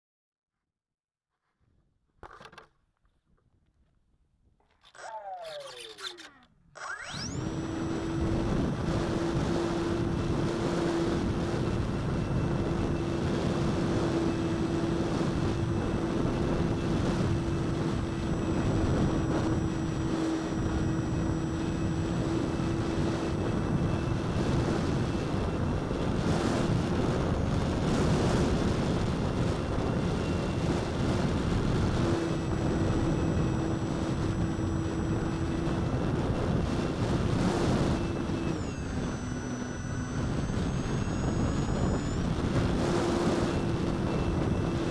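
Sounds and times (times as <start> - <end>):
electric motor and propeller hum: 4.6 - 44.9
wind rush on microphone: 7.4 - 44.9.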